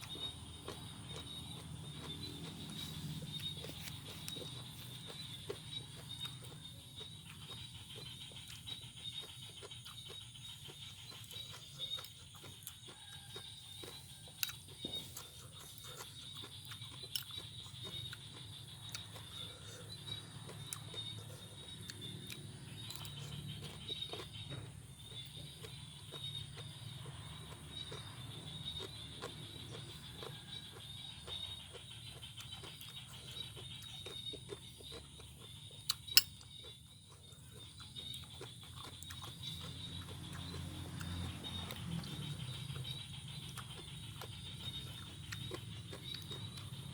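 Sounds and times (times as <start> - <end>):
chewing crunchy salad: 0.0 - 46.9.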